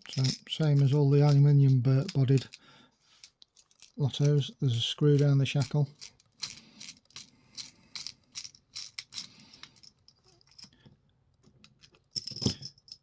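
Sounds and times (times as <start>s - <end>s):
padlock parts clicking and rattling: 0.0s - 13.0s.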